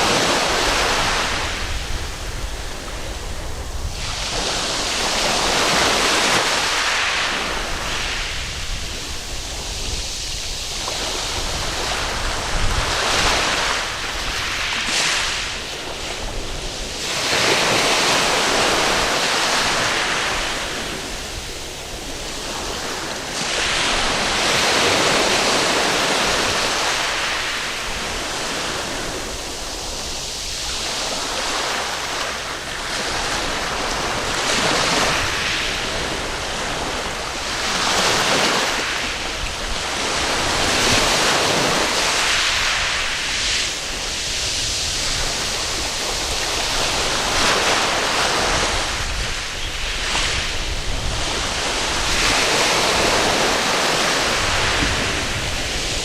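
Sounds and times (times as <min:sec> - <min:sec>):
waves washing on sandy beach: 0:00.0 - 0:56.0
wind on microphone: 0:00.0 - 0:56.0.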